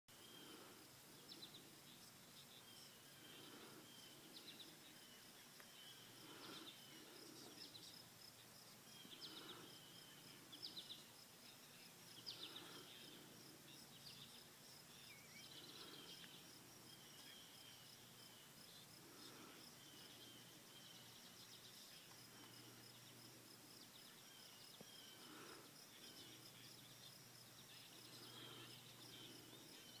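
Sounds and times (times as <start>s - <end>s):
high insect drone: 0.2s - 30.0s.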